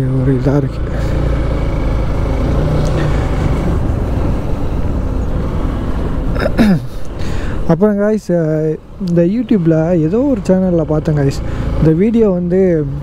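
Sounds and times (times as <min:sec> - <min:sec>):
motorcycle engine and road rumble: 0:00.0 - 0:13.0.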